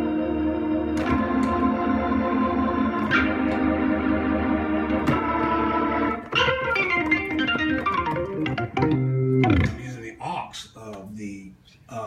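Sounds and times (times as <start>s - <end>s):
organ chords: 0.0s - 10.1s
organ notes stepping down: 0.0s - 10.2s.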